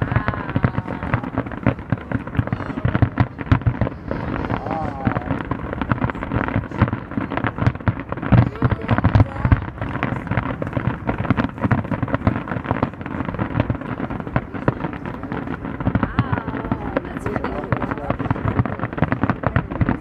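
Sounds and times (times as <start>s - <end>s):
fireworks booms: 0.0s - 20.0s
fireworks crackling and banging: 0.0s - 20.0s.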